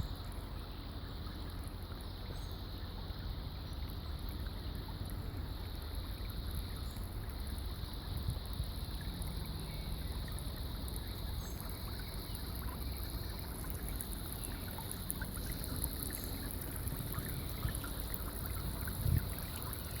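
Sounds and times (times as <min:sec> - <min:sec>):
trickle of running water: 0:00.0 - 0:20.0.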